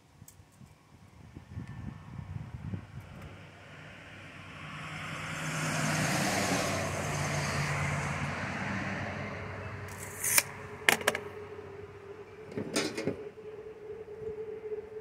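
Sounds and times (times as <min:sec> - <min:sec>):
vehicle passing by: 0:02.0 - 0:14.8.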